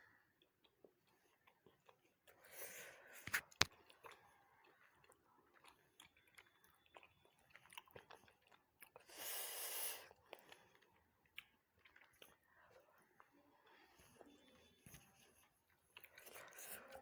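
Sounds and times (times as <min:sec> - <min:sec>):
person chewing quietly: 0:00.0 - 0:17.0.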